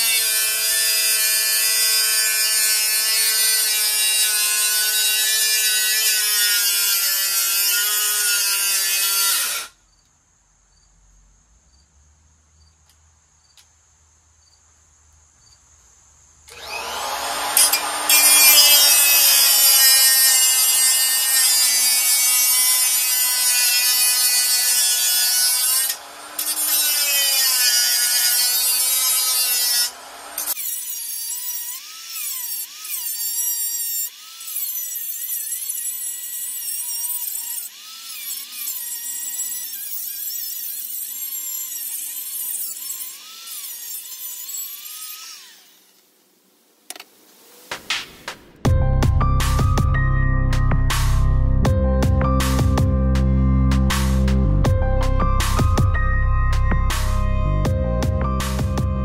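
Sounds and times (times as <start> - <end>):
angle grinder cutting sheet metal: 0.0 - 9.8, 16.5 - 46.0, 49.4 - 51.7, 52.4 - 54.8, 55.4 - 59.0.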